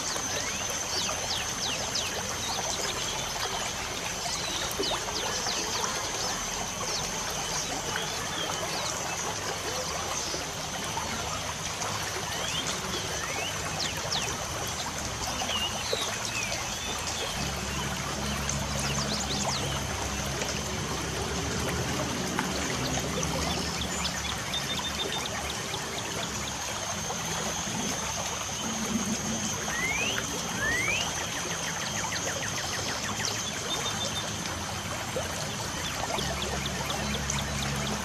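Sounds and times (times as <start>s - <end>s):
trickling water: 0.0s - 38.0s.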